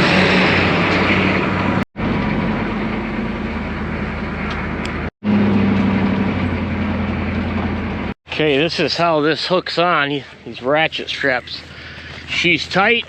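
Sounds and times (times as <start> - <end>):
farm vehicle engine humming: 0.0 - 13.0.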